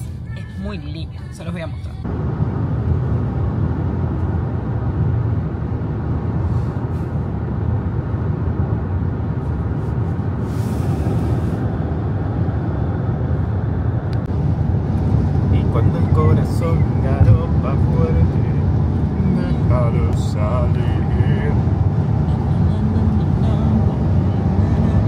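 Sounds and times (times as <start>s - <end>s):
car driving rumble: 0.0s - 25.0s.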